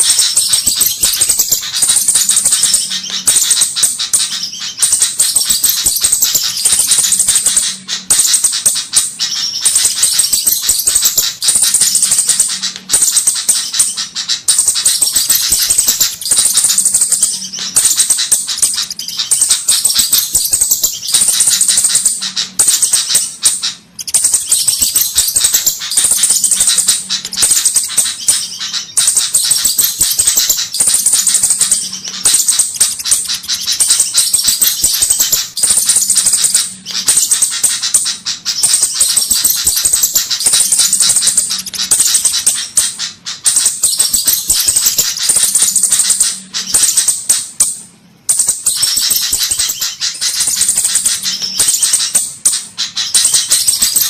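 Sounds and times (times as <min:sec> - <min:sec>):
bird ticking chatter: 0:00.0 - 0:54.0.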